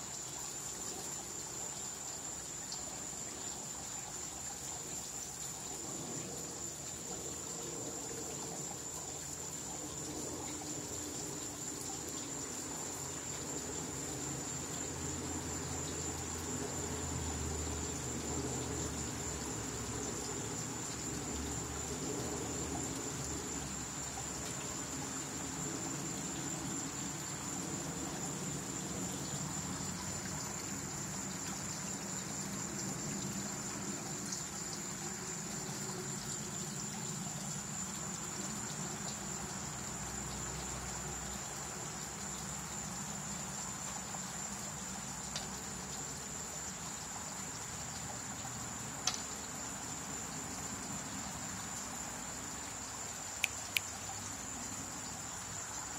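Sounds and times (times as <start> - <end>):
water trickling: 0.0 - 55.9.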